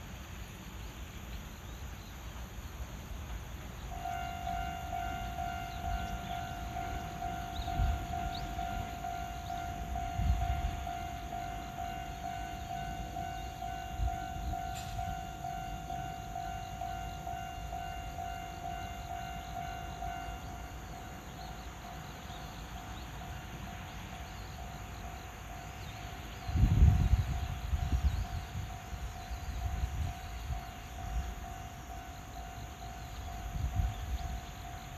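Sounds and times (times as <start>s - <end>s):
level-crossing alarm bell: 3.8s - 34.9s.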